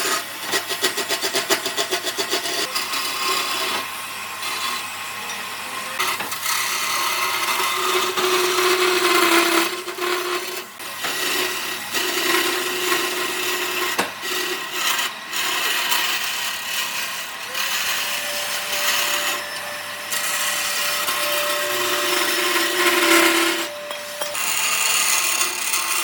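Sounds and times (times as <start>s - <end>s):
power tool grinding wood: 0.0s - 26.0s.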